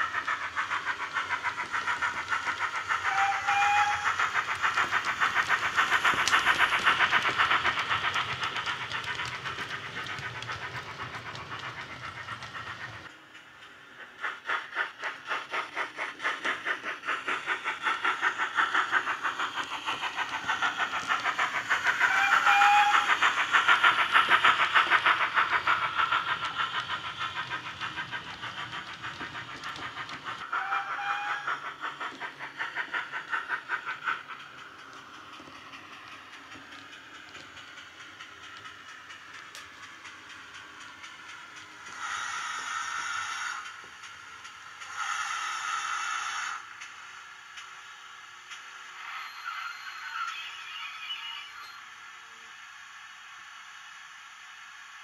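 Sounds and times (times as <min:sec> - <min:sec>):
rhythmic steam exhaust chuffs: 0:00.0 - 0:55.0.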